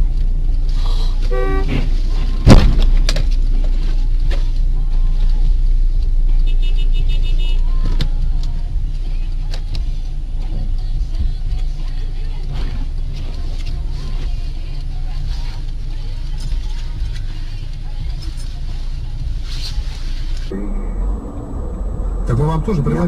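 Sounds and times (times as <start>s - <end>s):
car rumbling on road: 0.0s - 23.0s.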